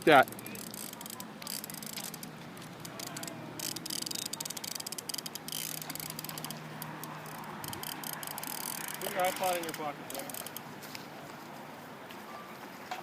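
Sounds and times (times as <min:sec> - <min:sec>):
fishing reel drag clicking: 0:00.0 - 0:10.6.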